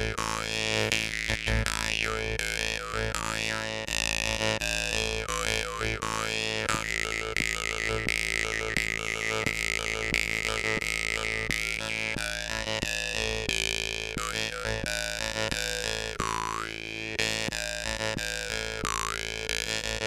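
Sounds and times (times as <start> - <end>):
jew's harp buzzing drone: 0.0 - 20.0.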